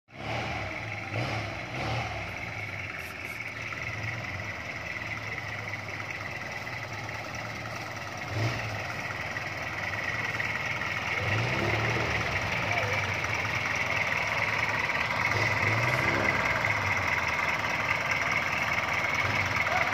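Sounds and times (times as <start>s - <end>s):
jeep engine at low revs: 0.1s - 19.9s.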